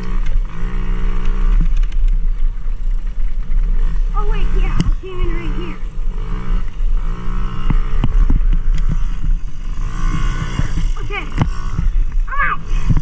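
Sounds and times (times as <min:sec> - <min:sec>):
dirt bike engine revving: 0:00.0 - 0:13.0
knocks and rattles from bike: 0:00.0 - 0:13.0.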